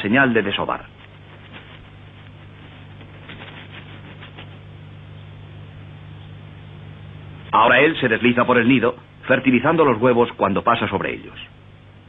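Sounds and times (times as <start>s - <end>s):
low electrical hum: 0.0s - 12.0s
soundtrack hiss: 0.0s - 12.0s.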